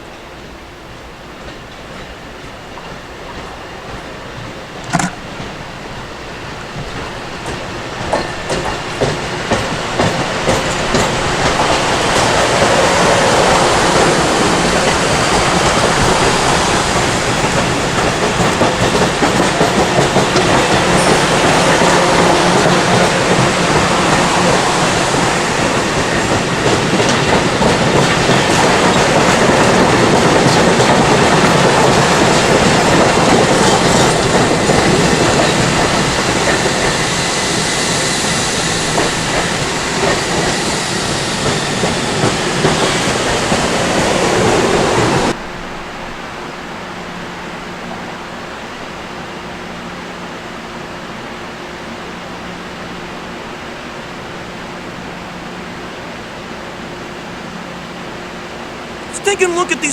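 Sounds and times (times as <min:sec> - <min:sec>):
train rolling past: 0:00.0 - 0:59.9.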